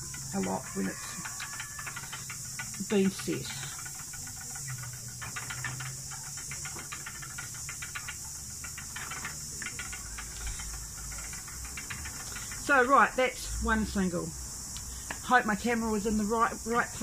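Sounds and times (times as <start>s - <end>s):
cicadas droning: 0.0s - 17.0s
spinning wheel clicking and whirring: 0.0s - 17.0s.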